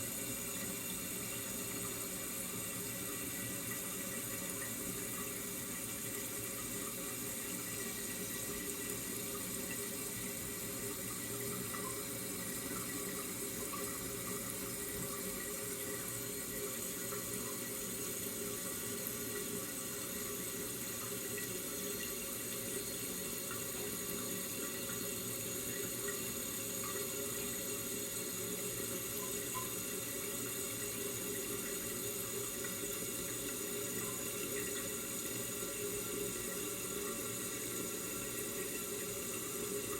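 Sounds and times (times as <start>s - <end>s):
toilet tank refilling: 0.0s - 39.9s.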